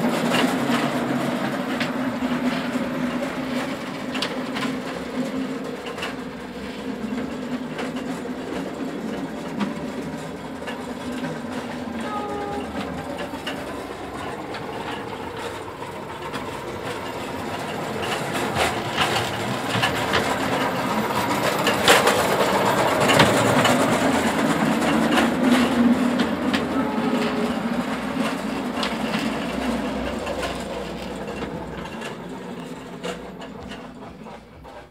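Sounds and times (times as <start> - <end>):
model locomotive drive hum: 0.0 - 34.9
wheels clicking on rails: 0.0 - 34.9.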